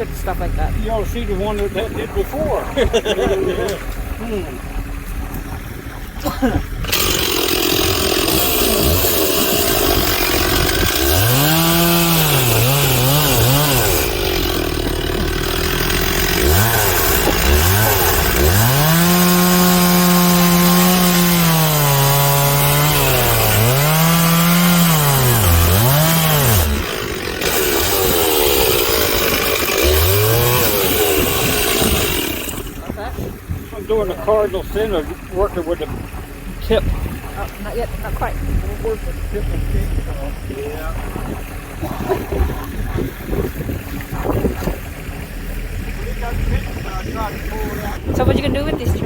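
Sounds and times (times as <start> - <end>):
chainsaw cutting wood: 2.8 - 48.5.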